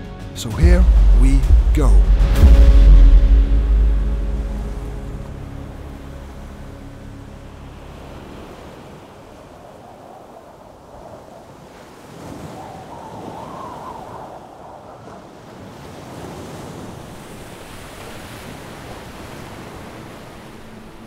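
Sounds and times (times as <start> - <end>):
ocean waves washing: 0.4 - 21.0
wind blowing: 0.4 - 21.0.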